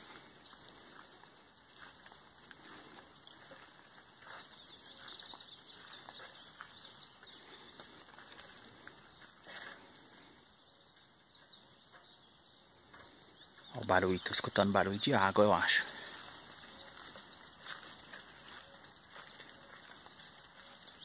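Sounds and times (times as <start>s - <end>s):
rural outdoor ambience: 0.0s - 21.0s.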